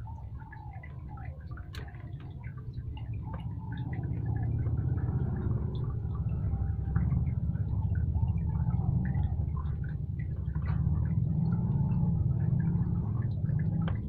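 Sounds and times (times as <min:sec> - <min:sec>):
washing machine motor hum: 0:00.0 - 0:14.0
water splashing and gurgling: 0:00.0 - 0:14.0.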